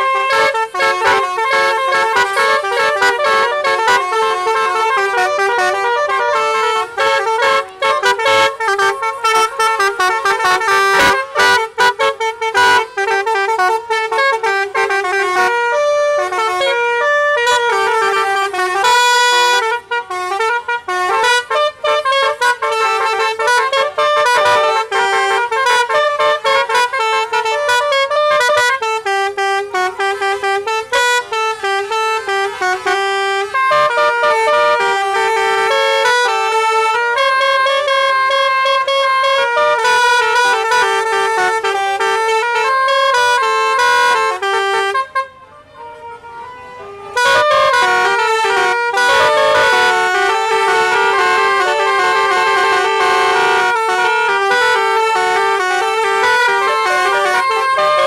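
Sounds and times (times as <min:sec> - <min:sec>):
bus horn playing melody: 0:00.0 - 0:58.0.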